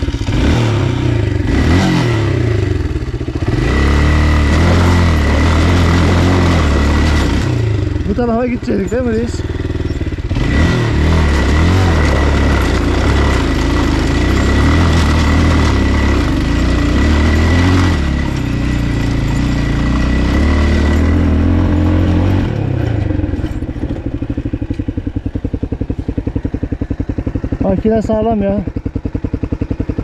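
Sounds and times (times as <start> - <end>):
motocross bike engine: 0.0 - 30.0.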